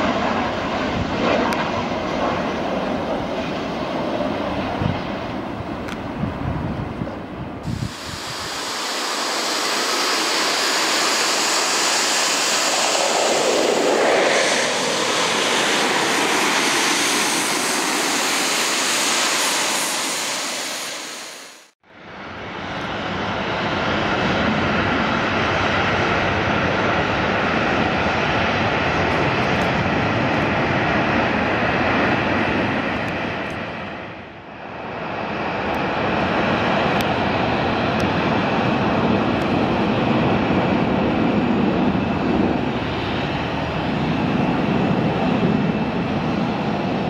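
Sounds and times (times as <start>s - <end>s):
jet engines passing overhead: 0.0s - 47.0s.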